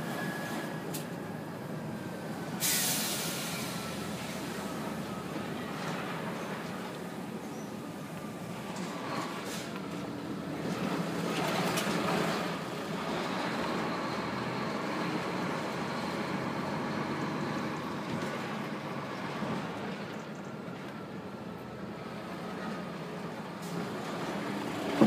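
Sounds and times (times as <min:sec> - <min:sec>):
road noise: 0:00.0 - 0:25.0
truck engine: 0:00.0 - 0:25.0.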